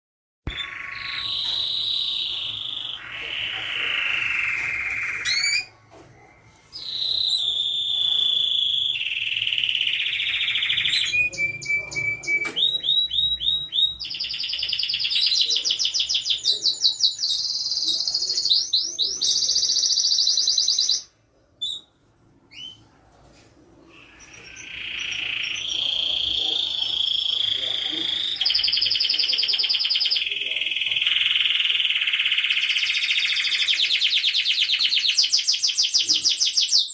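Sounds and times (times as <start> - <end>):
canary singing trills: 0.5 - 22.9, 23.9 - 36.9.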